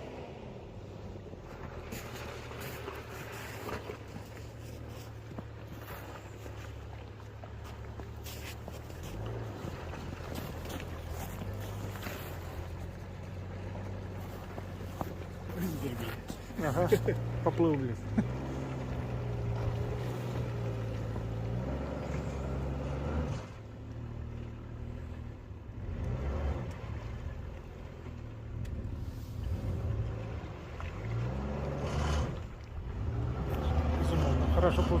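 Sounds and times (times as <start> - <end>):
car engine revving off-road: 0.0 - 35.0.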